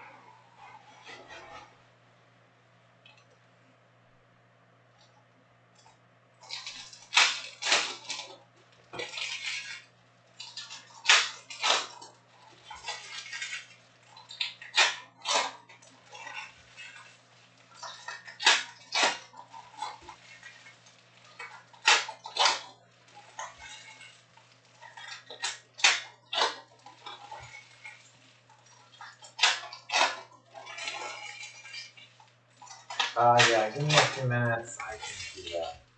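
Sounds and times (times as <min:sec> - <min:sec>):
foil wrappers crinkling and tearing: 0:06.4 - 0:35.9.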